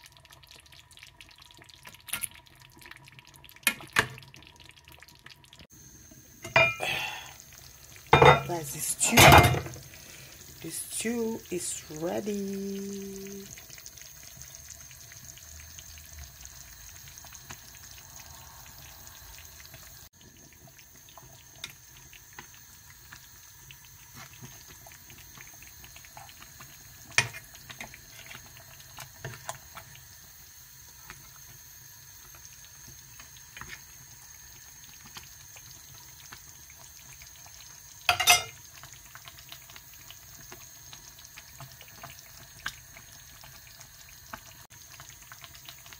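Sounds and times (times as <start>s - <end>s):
stew bubbling in a pot: 0.0s - 45.9s.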